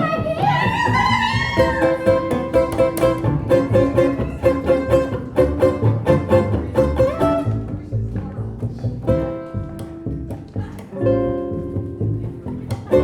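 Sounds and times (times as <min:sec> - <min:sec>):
small band playing swing tune: 0:00.0 - 0:13.0.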